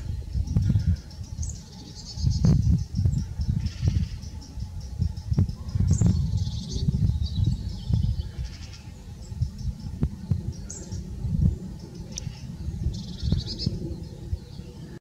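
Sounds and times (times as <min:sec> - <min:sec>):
high rapid bird calls: 0:00.0 - 0:14.8
wind buffeting microphone: 0:00.0 - 0:15.0.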